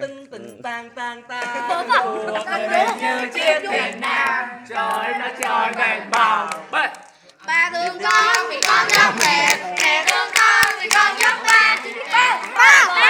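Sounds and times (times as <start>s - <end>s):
group of voices singing: 0.0s - 13.0s
rhythmic hand clapping: 2.3s - 13.0s.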